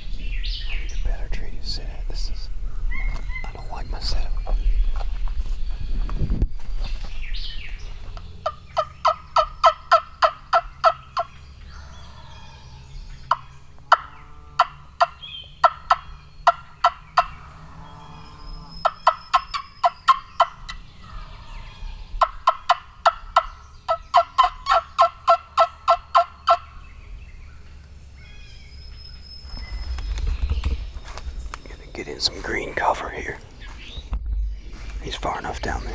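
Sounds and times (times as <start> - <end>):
wild turkey calling: 0.0 - 5.3, 7.0 - 34.1, 34.7 - 35.9.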